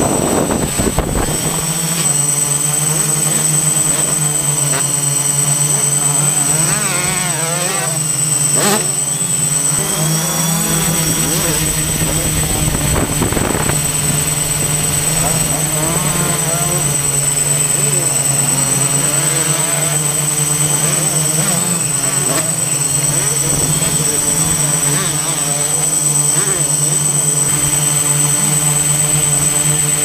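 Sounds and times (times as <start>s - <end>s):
drone propellers whining: 0.0s - 30.0s
motorcycle engines revving: 0.0s - 30.0s.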